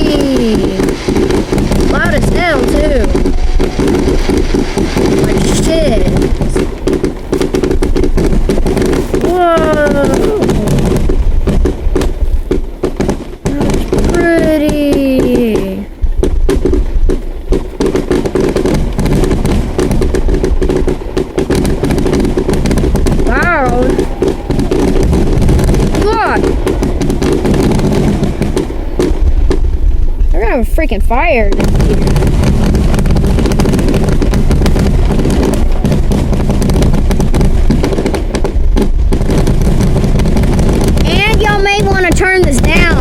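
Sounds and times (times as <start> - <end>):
constant low rumble: 0.0 - 43.0
fireworks bangs and crackling: 0.0 - 43.0.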